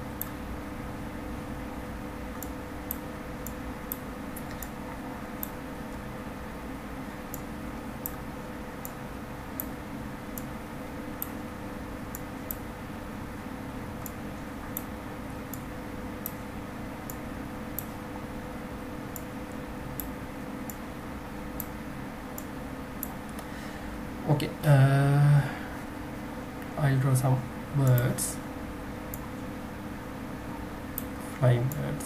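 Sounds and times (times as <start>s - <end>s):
background hum and hiss: 0.0s - 32.0s.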